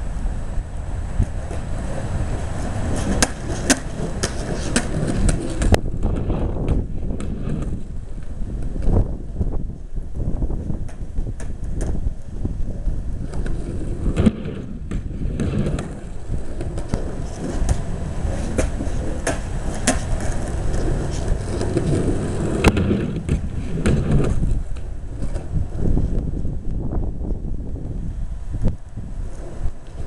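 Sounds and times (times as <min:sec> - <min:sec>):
skateboard wheels rolling on concrete: 0:00.0 - 0:30.0
skateboard clacks: 0:01.1 - 0:09.4, 0:10.6 - 0:26.4.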